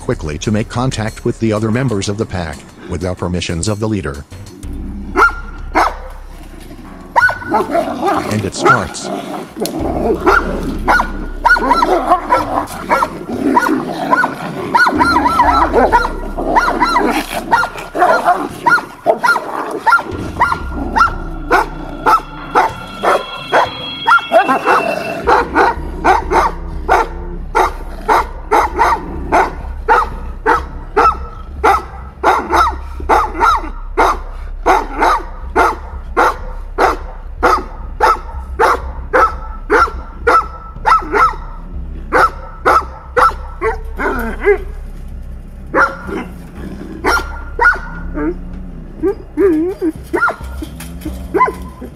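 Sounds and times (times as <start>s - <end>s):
dogs snarling and growling: 4.5s - 51.9s
dogs barking: 5.1s - 45.1s, 45.7s - 51.9s.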